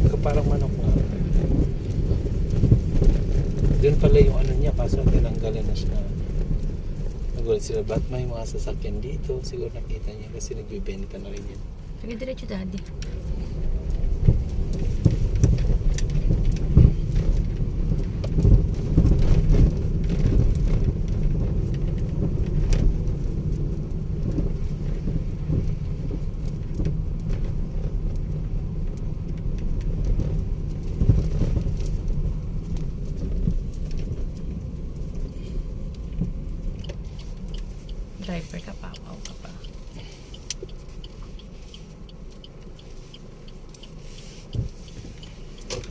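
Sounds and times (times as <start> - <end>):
car driving over rough road: 0.0 - 45.9.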